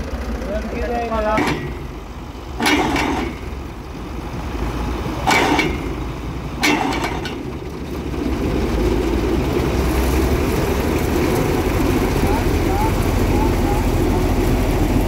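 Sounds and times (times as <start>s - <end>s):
threshing machine rumbling: 0.0s - 15.0s.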